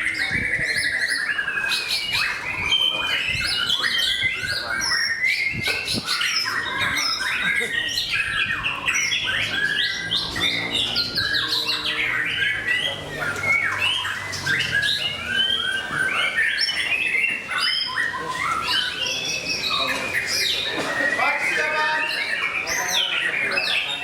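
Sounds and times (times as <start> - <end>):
birds singing whistled phrases: 0.0 - 24.0.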